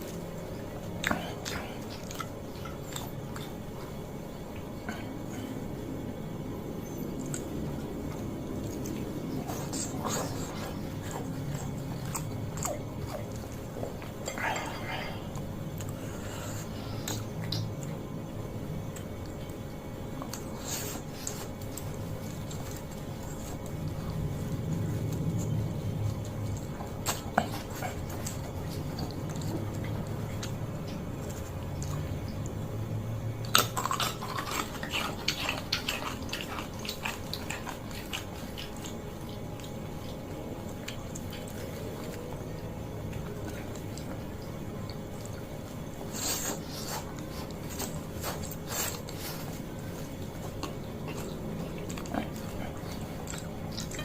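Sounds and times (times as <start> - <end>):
wet chewing and smacking: 0.0 - 54.0.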